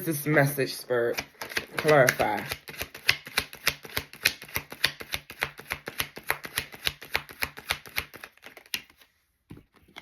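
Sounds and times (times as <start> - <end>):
cards being shuffled: 1.1 - 10.0.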